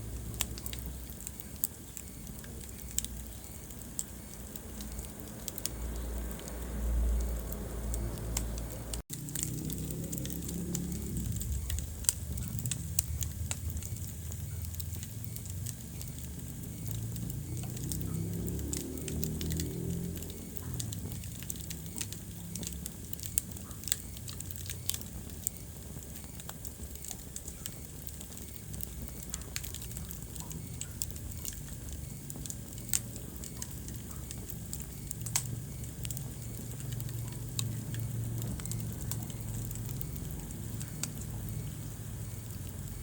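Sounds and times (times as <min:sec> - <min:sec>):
fire pops and snaps: 0:00.0 - 0:43.0
low rumble of flames: 0:00.0 - 0:43.0
wood fire crackling: 0:00.0 - 0:43.0.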